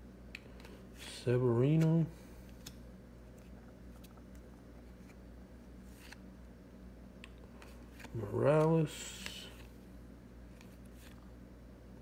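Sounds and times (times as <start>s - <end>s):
steady low hum: 0.0s - 12.0s
cards being flipped by hand: 0.3s - 6.5s, 7.2s - 11.3s.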